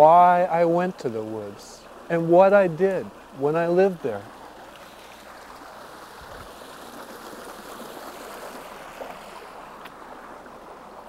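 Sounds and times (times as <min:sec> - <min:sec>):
creek flowing over rocks: 0:00.0 - 0:11.0.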